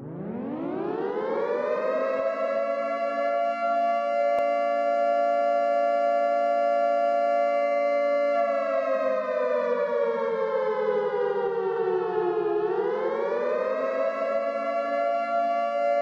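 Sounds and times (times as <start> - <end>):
warning siren: 0.0 - 16.0.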